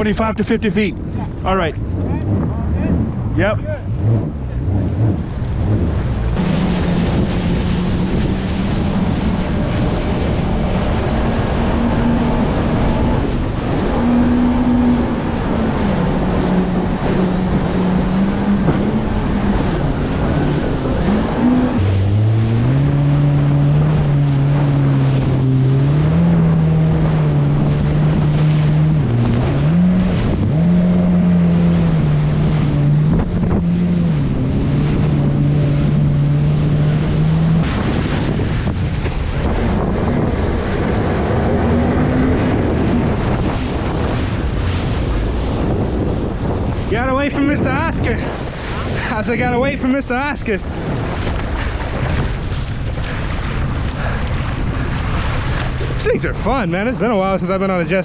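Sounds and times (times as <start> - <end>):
jet ski engine running: 0.0 - 58.0
wind on microphone: 0.0 - 58.0
water splashing: 1.0 - 58.0.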